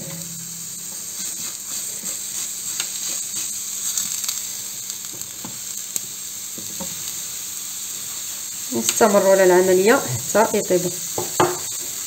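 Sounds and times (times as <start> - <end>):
eggplant sizzling on a grill: 0.0 - 12.0.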